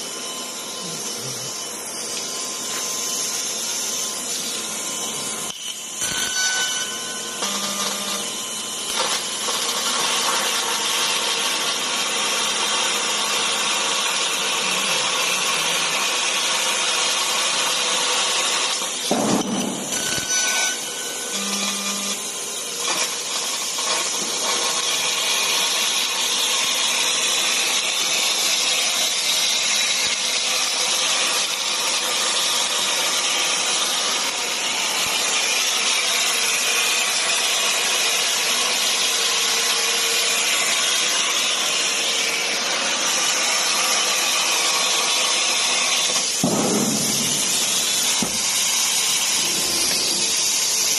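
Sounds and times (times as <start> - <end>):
laser cutter hissing: 0.0 - 50.9.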